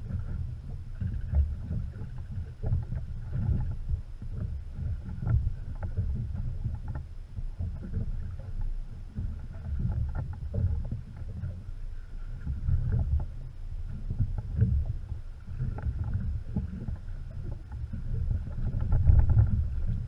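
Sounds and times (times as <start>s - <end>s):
water slapping against boat hull: 0.0s - 11.7s, 12.3s - 20.0s
wind buffeting the microphone: 0.0s - 20.0s.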